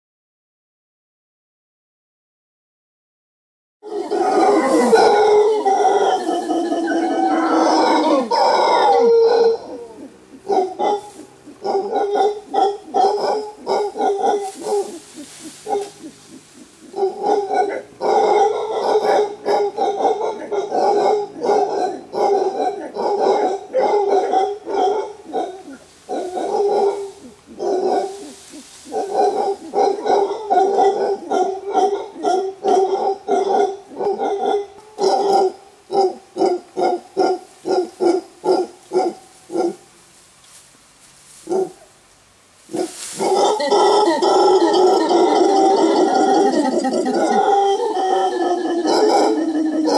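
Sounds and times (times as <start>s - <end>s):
howler monkey roaring: 3.8s - 37.0s, 42.7s - 49.9s.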